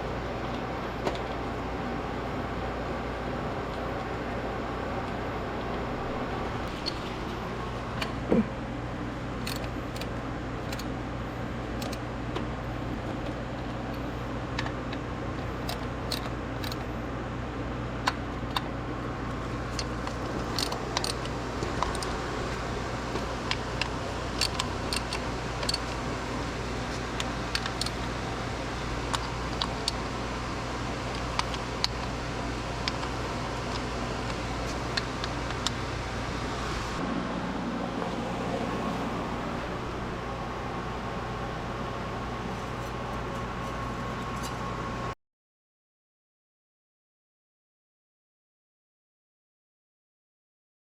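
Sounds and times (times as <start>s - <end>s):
steady low hum: 0.0s - 45.2s.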